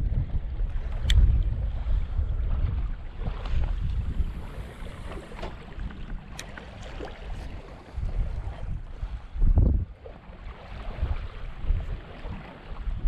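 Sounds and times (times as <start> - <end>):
waves lapping on stony shore: 0.0 - 13.0
wind rumbling on microphone: 0.0 - 13.0.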